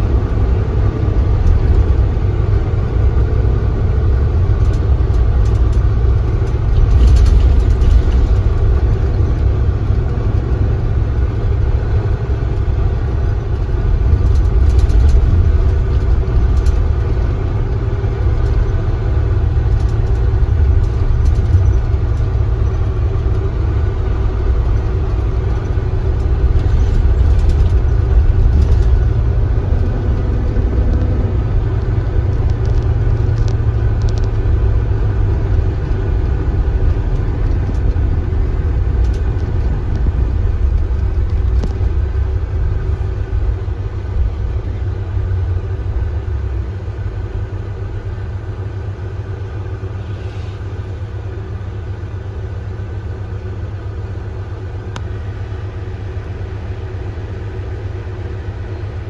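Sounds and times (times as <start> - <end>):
coach engine running: 0.0 - 59.0.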